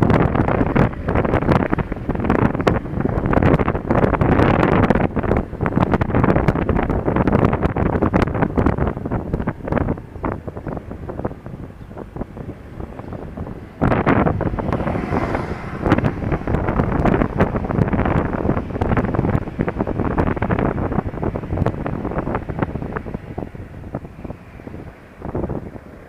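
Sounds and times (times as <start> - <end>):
road and vehicle noise: 0.0 - 26.0
wind buffeting microphone: 0.0 - 26.0.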